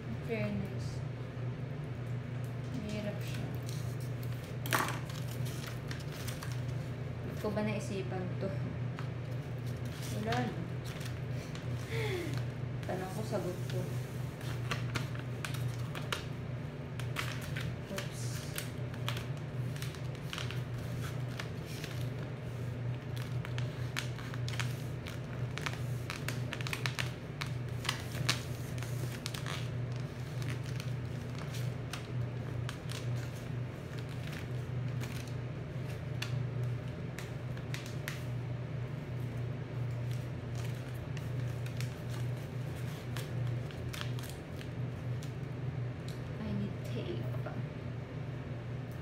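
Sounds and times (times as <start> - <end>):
steady low hum: 0.0 - 49.0
foil paper crinkling: 2.8 - 7.6, 9.2 - 45.5.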